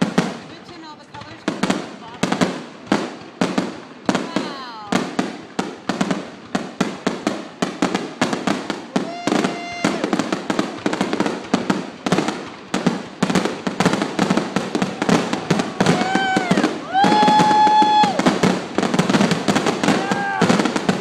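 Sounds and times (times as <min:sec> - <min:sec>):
firework bursts: 0:00.0 - 0:21.0.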